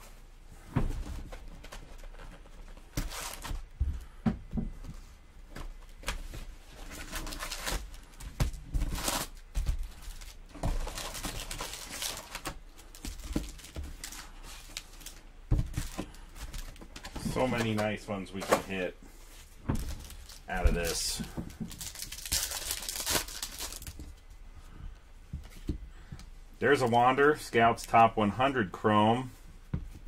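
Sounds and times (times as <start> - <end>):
card packs rustling and crinkling: 0.0 - 24.4.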